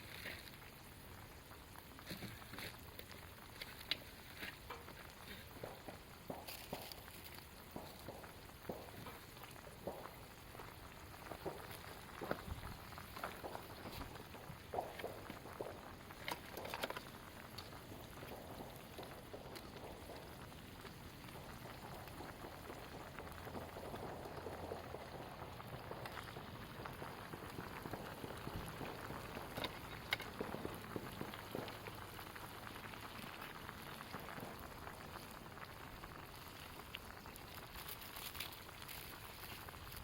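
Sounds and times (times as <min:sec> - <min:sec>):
fire crackles and pops: 0:00.0 - 0:40.0
food sizzling over campfire: 0:00.0 - 0:40.0.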